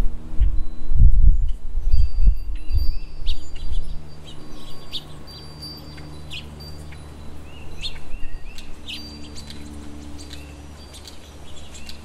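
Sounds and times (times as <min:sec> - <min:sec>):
steady low hum: 0:00.0 - 0:12.0
songbirds chirping: 0:00.3 - 0:12.0.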